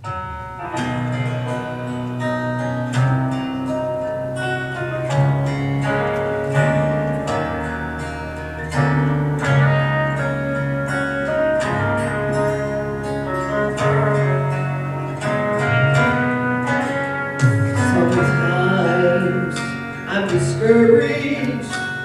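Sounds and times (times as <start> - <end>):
low bass line: 0.0 - 22.0
strummed acoustic guitar: 0.0 - 22.0.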